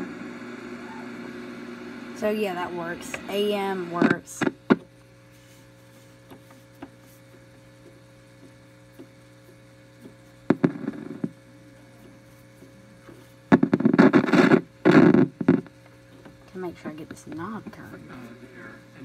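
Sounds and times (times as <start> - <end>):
radio low hum: 0.0 - 19.0.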